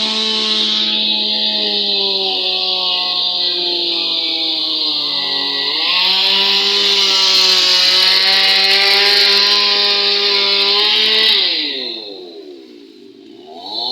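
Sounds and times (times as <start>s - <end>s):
chainsaw cutting wood: 0.0s - 13.9s.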